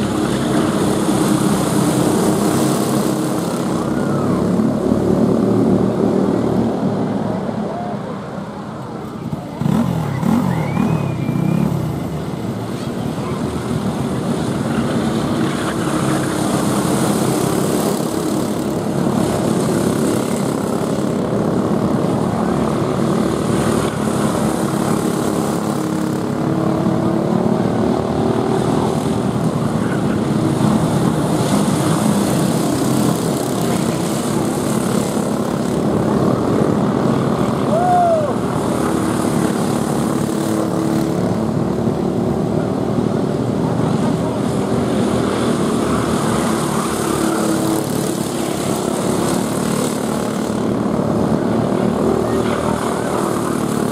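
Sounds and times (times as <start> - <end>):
go-kart engines racing: 0.0 - 53.9.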